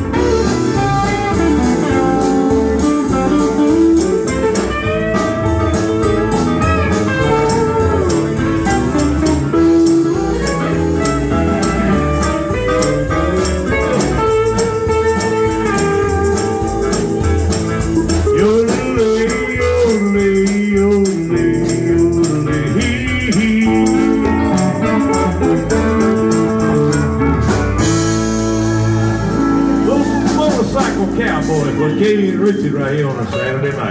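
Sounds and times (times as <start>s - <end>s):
drum beat: 0.0s - 33.4s
country band playing: 0.0s - 33.9s
guitar: 0.0s - 33.9s.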